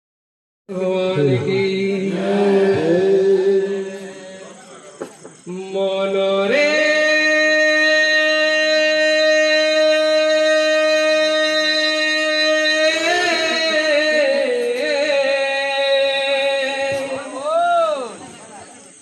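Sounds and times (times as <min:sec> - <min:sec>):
men chanting: 0:00.7 - 0:18.3.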